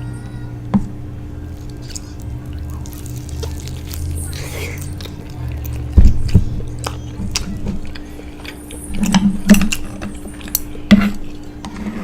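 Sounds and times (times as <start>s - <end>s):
person chewing: 1.4s - 11.6s.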